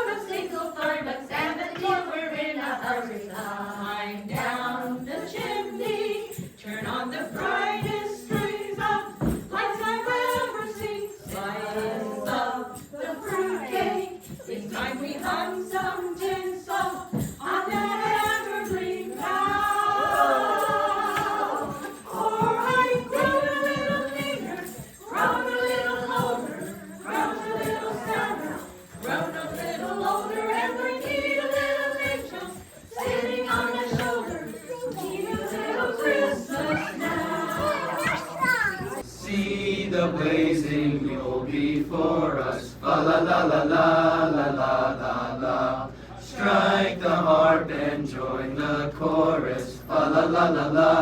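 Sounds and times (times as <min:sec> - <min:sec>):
choir singing: 0:00.0 - 0:51.0.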